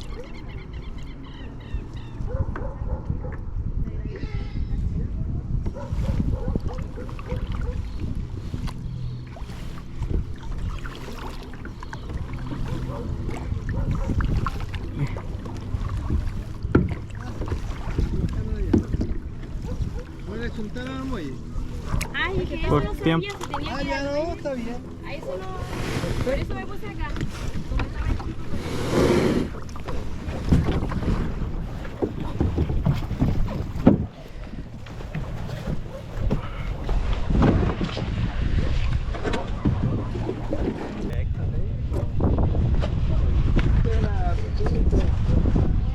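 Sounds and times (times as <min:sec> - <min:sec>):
wind rumbling on microphone: 0:00.0 - 0:45.9
paddle splashing water: 0:05.7 - 0:45.9.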